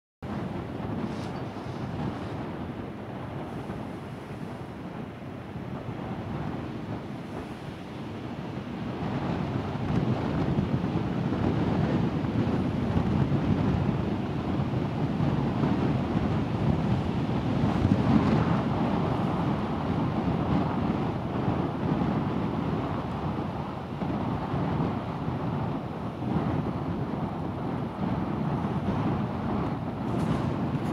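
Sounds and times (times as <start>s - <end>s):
wind blowing across microphone: 0.2s - 30.9s.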